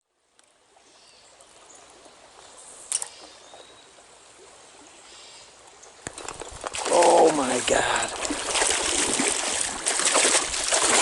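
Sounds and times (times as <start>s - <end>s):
stream flowing and trickling: 0.0s - 11.0s.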